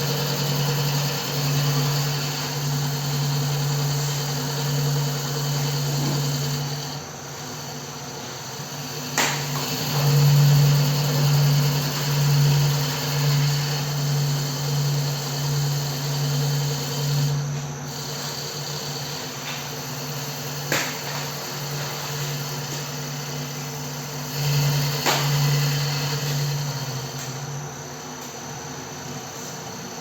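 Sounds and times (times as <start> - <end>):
wood lathe machine hum: 0.0 - 30.0.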